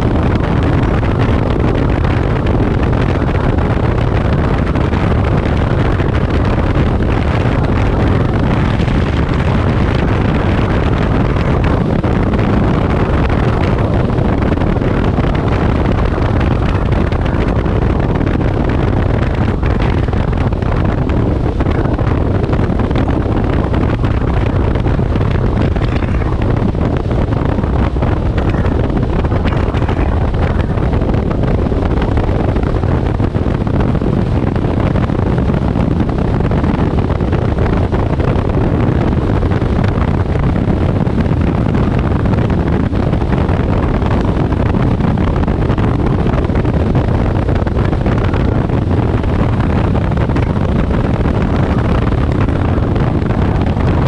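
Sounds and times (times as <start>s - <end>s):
car road noise: 0.0s - 54.0s
wind rumble on microphone: 0.0s - 54.0s.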